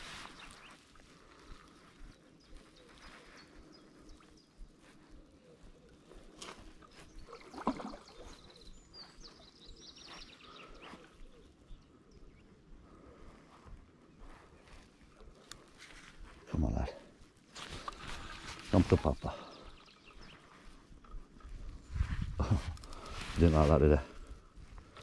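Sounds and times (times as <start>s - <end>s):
small birds calling: 0.0s - 25.0s.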